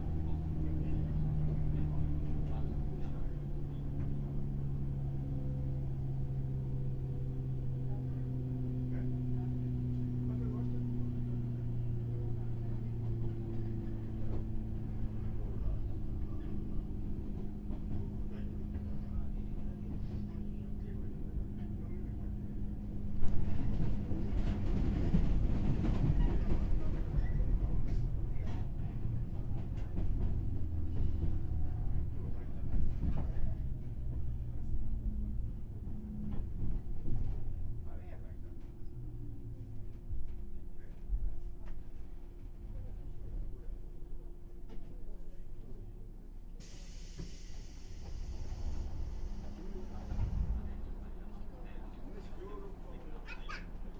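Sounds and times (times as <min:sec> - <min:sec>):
train cabin rumble: 0:00.1 - 0:53.9.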